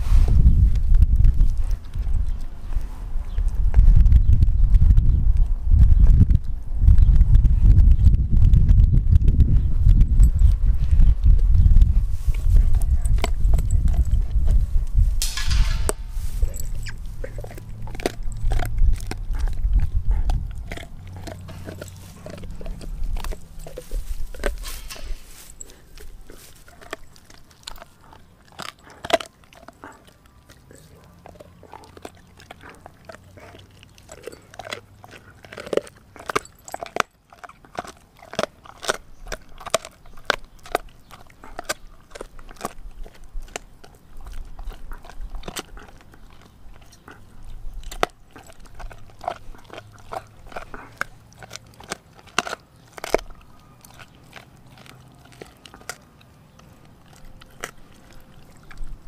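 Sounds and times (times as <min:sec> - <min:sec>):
dog crunching frozen bone: 0:00.0 - 0:04.3, 0:08.2 - 0:59.0.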